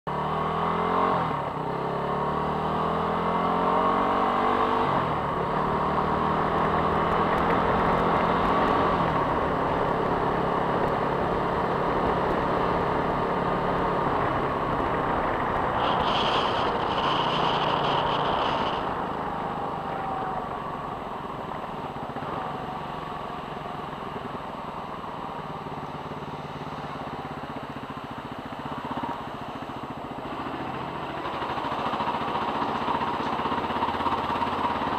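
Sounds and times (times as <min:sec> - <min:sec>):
motorcycle engine shifting gears: 0:00.1 - 0:34.9.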